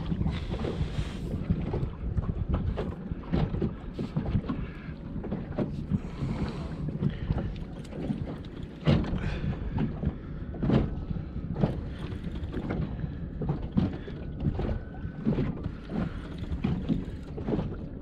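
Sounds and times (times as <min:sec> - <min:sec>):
waves slapping boat hull: 0:00.0 - 0:18.0
wind rumbling on microphone: 0:00.0 - 0:18.0.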